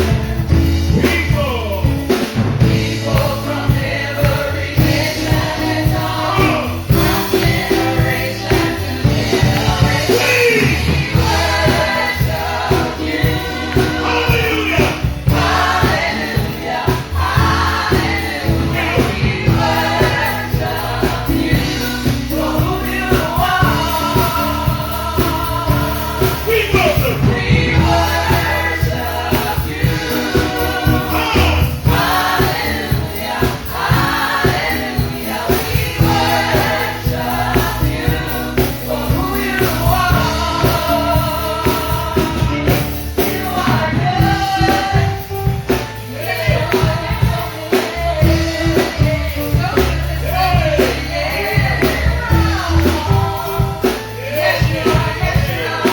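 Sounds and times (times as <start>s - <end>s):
gospel choir singing: 0.0s - 55.9s
live band with bass and drums: 0.0s - 55.9s.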